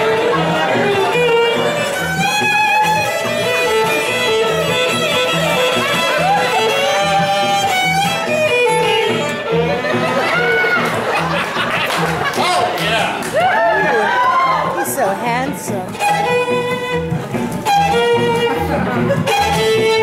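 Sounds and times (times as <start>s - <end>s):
band accompaniment: 0.0s - 20.0s
fiddle playing lively tune: 0.0s - 20.0s.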